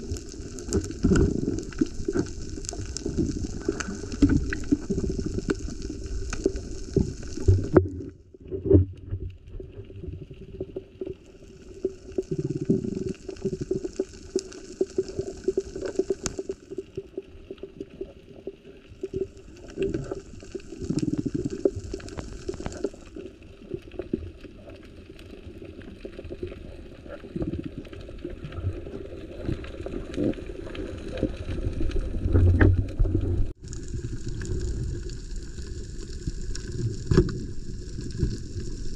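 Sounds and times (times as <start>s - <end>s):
water surges: 0.0s - 8.4s, 9.7s - 38.9s
underwater rumble and churning water: 0.0s - 38.9s.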